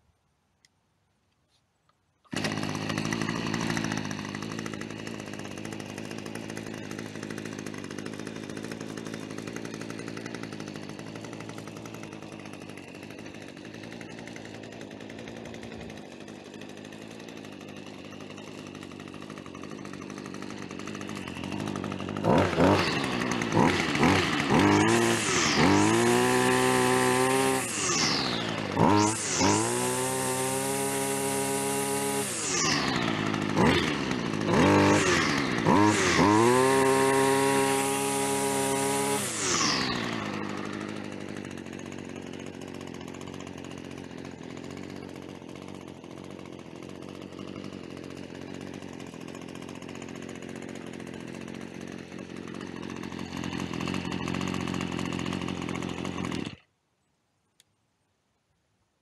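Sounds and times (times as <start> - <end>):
line trimmer engine revving: 2.2 - 56.7.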